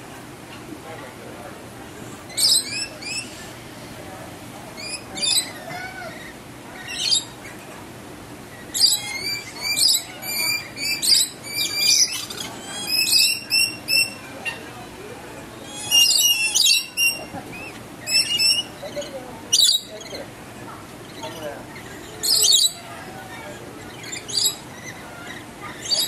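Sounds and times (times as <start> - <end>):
lorikeets squawking: 2.2 - 3.9, 4.8 - 7.6, 8.5 - 14.8, 15.4 - 26.0.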